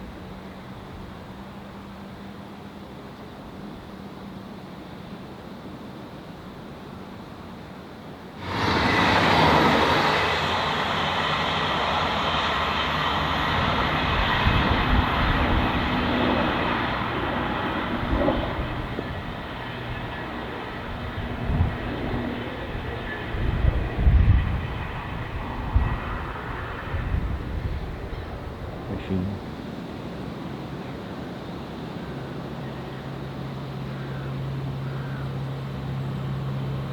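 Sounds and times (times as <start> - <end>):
diesel train passing: 0.0 - 6.5, 7.5 - 36.9.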